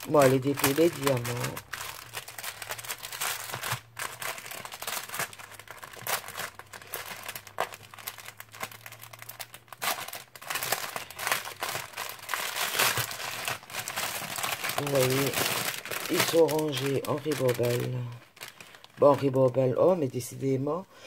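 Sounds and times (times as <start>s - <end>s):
plastic sachets crinkling: 0.0s - 20.4s.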